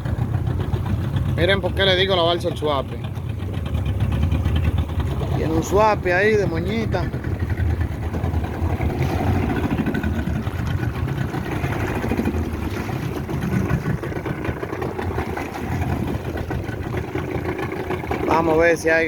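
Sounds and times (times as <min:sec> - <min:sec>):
motorboat engine rumbling: 0:00.0 - 0:19.0.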